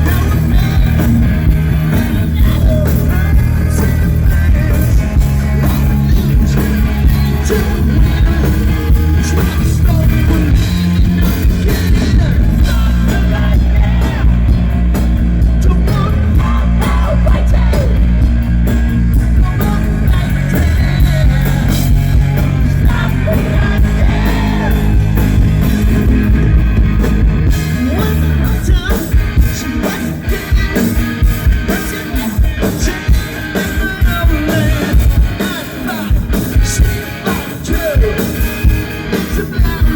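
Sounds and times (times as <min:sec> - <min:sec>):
distorted electric guitars: 0:00.0 - 0:39.9
drums: 0:00.0 - 0:39.9
hard rock band playing live: 0:00.0 - 0:39.9
lead singer singing: 0:00.0 - 0:39.9.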